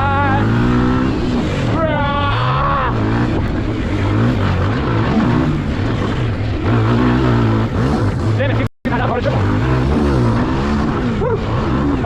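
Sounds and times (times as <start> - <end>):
pit bike engine running hard: 0.0 - 12.0.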